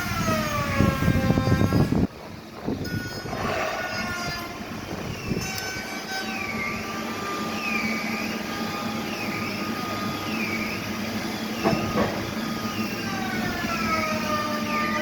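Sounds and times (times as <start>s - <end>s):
sawmill machinery hum: 0.0s - 15.0s
machine whine dipping and rising: 1.8s - 15.0s.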